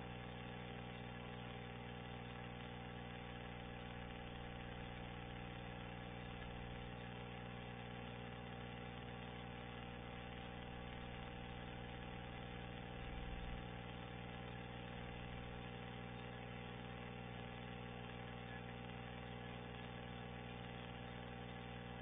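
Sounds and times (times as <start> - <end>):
steady multi-tone hum: 0.0 - 22.0.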